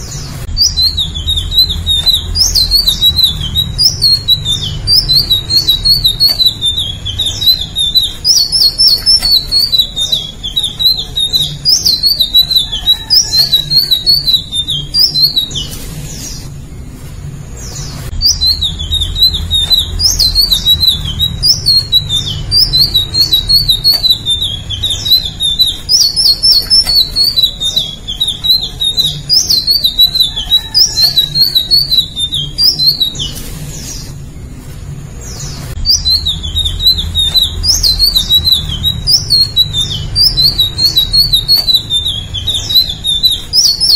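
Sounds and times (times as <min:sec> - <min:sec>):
bird twittering song: 0:00.0 - 0:43.9
steady low hum: 0:00.0 - 0:43.9.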